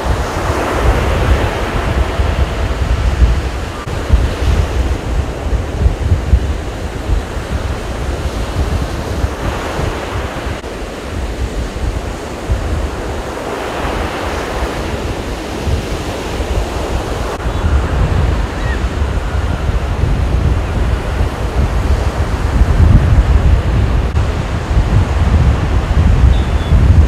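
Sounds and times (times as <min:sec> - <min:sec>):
surf breaking on beach: 0:00.0 - 0:27.0
wind buffeting microphone: 0:00.0 - 0:27.0.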